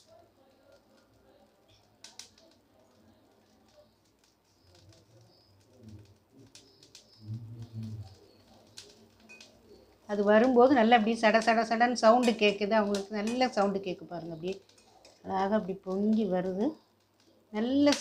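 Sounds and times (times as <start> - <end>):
crackles and pops of frying: 0.0 - 18.0.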